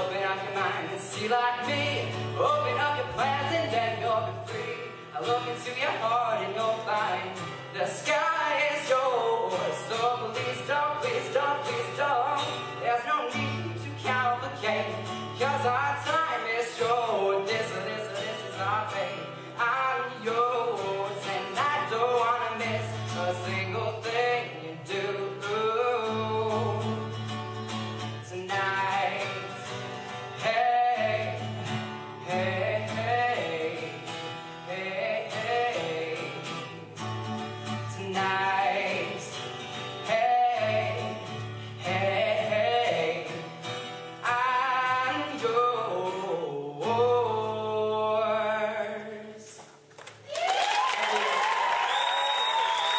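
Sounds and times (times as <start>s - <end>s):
man singing: 0.0s - 49.6s
strummed acoustic guitar: 0.0s - 49.6s.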